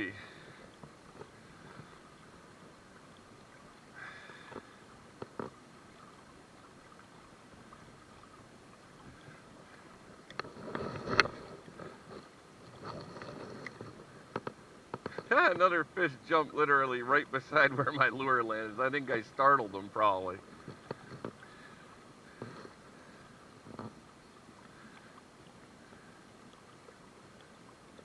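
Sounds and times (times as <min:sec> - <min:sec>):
river water running: 0:00.0 - 0:28.0.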